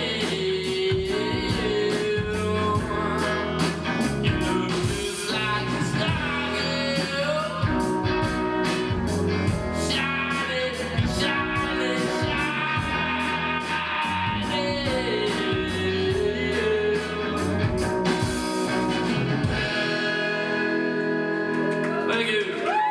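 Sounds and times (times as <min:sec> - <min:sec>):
steady drum beat: 0:00.0 - 0:20.2
bass: 0:00.0 - 0:22.9
electric guitar: 0:00.0 - 0:22.9
person singing: 0:00.0 - 0:22.9.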